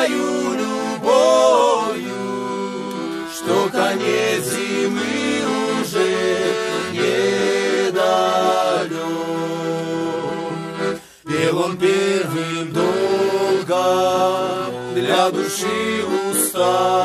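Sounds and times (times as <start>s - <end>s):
men singing together: 0.0s - 2.6s, 3.3s - 17.0s
accordion chords: 0.0s - 17.0s.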